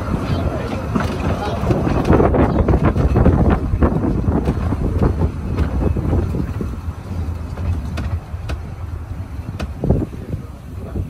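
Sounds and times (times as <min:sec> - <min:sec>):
railway coach rumbling on track: 0:00.0 - 0:11.0
wind on microphone: 0:00.0 - 0:11.0.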